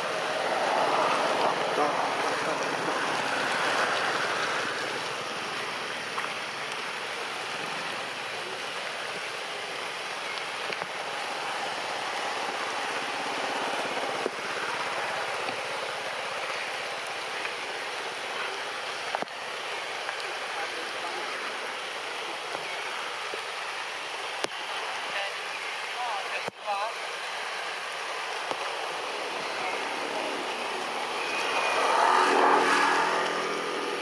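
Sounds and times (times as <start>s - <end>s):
rain falling on foliage: 0.0s - 34.0s.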